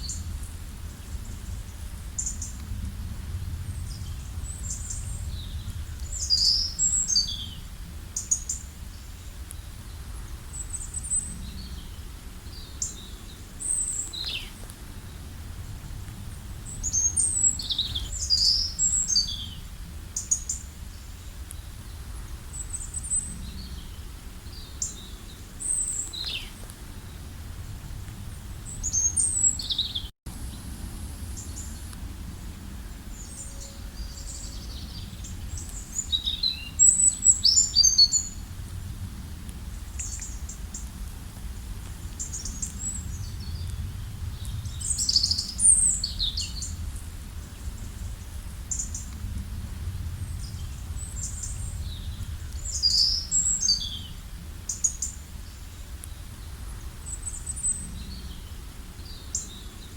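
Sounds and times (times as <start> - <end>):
low background rumble: 0.0 - 59.8
wild birds chirping: 3.6 - 27.4, 28.2 - 30.6, 31.3 - 38.7, 39.7 - 49.2, 49.8 - 59.9.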